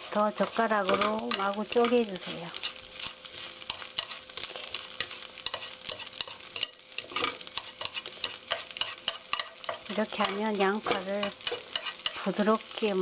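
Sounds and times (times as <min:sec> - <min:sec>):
chopsticks scraping a pan: 0:00.0 - 0:13.0
onions sizzling in oil: 0:00.0 - 0:13.0.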